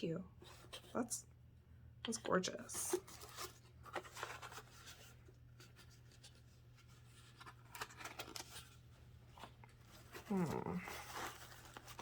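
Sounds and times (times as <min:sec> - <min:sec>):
rustling and handling noises: 0:00.3 - 0:01.3, 0:02.0 - 0:12.0.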